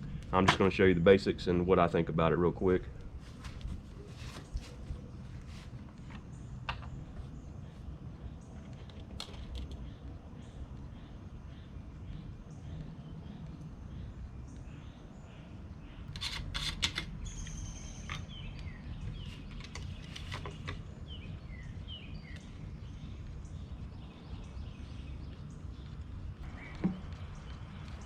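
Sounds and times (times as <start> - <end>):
outdoor background hum: 0.0 - 28.0
small birds chirping: 0.0 - 28.0.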